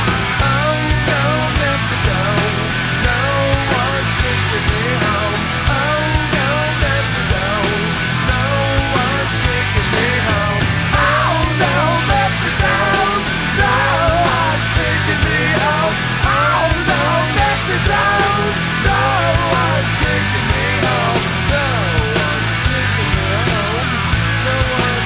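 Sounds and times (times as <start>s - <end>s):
grunge rock song: 0.0s - 25.0s
person singing: 0.4s - 25.0s.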